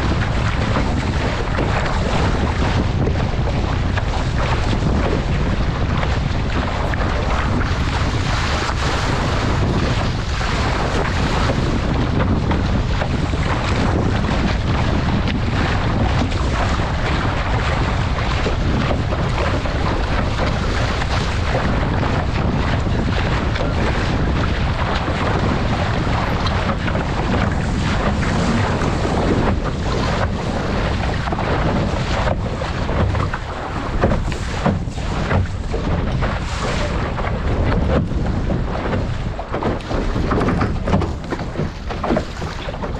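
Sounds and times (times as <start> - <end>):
water rushing along hull: 0.0 - 42.9
wind buffeting microphone: 0.0 - 42.9.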